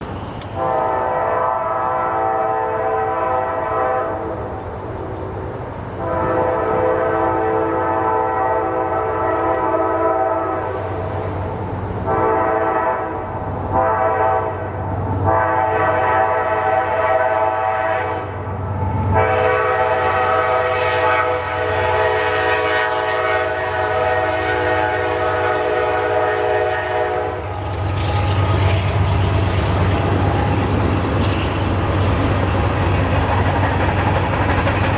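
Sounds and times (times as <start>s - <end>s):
train rumbling past: 0.0s - 34.9s
locomotive air horn blasts: 0.5s - 28.6s.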